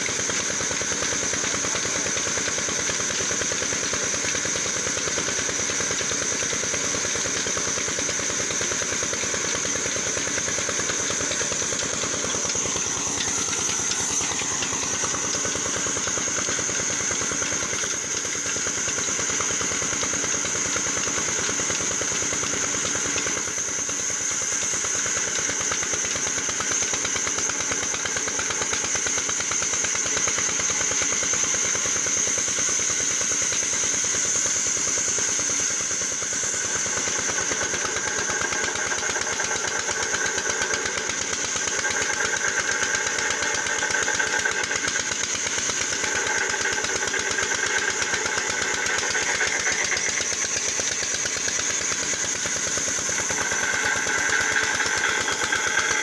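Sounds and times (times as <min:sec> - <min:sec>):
sawmill engine running: 0:00.0 - 0:56.0
band saw blade whine: 0:04.2 - 0:56.0.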